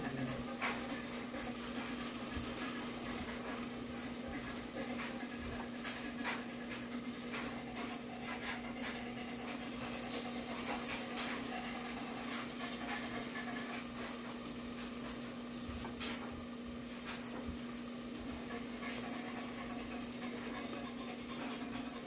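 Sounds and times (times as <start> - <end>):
sausage sizzling in a skillet: 0.0 - 22.0.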